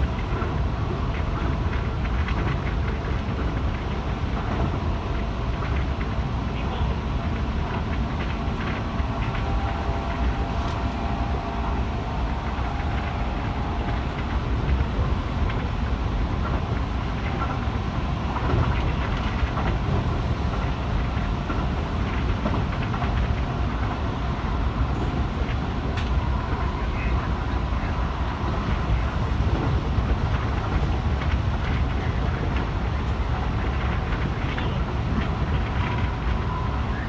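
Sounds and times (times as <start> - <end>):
train wheels rumbling on rails: 0.0 - 37.0
train whine: 0.0 - 37.0.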